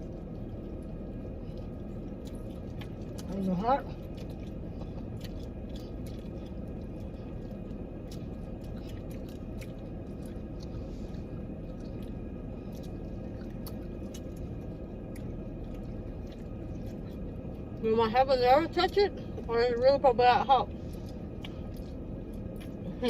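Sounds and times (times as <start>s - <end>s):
person chewing crispy chicken: 0.0s - 17.8s, 20.7s - 23.0s
low background hum: 0.0s - 23.0s.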